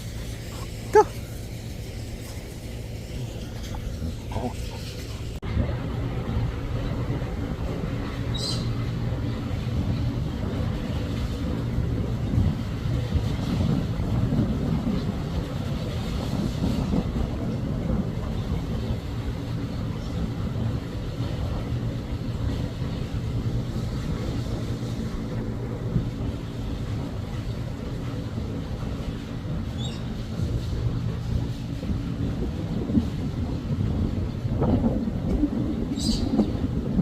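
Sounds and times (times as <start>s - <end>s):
low engine-like drone: 0.0s - 37.0s.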